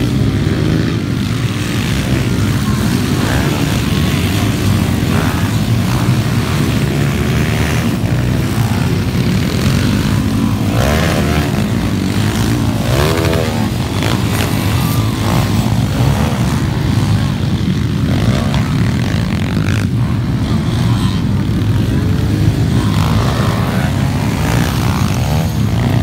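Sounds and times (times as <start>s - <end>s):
motorcycle engine revving: 0.0s - 26.0s
motorcycle engines racing: 0.0s - 26.0s.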